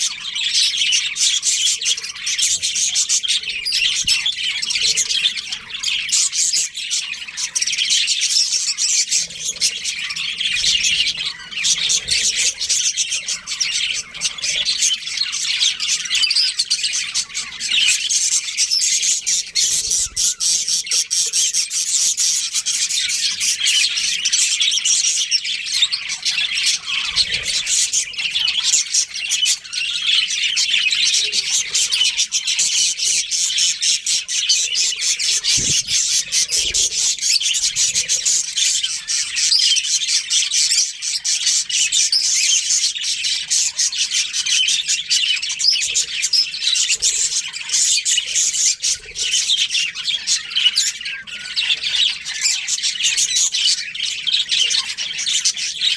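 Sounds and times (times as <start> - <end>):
budgerigars chirping: 0.0 - 55.9.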